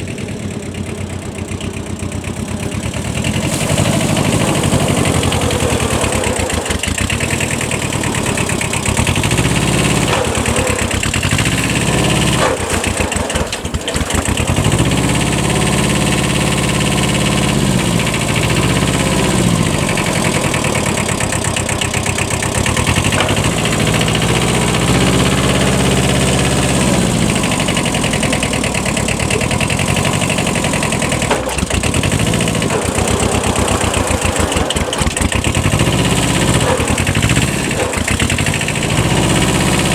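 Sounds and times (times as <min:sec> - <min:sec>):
tractor diesel engine working hard: 0:00.0 - 0:39.9.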